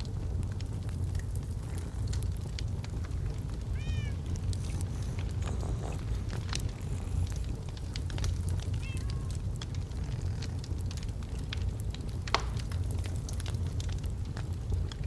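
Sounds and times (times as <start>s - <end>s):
log fire crackling and popping: 0.0s - 15.0s.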